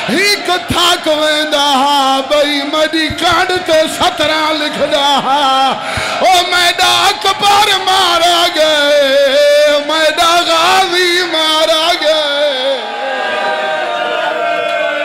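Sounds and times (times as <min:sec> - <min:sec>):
man chanting melodically: 0:00.0 - 0:12.9.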